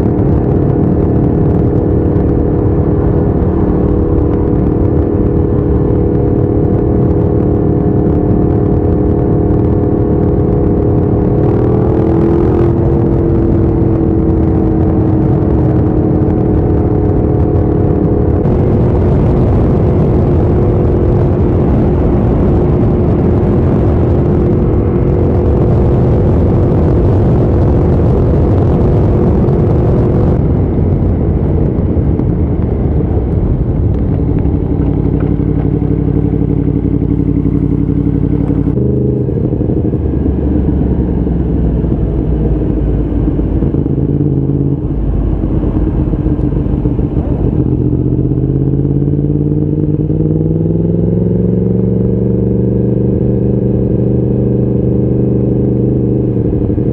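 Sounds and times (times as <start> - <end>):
motorcycle engine running: 0.0 - 56.9
wind rushing: 0.0 - 56.9.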